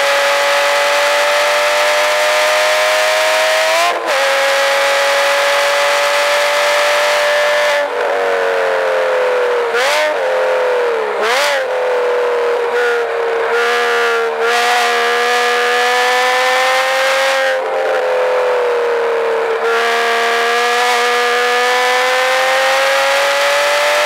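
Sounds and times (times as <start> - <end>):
car engine pulling hard: 0.0 - 24.0.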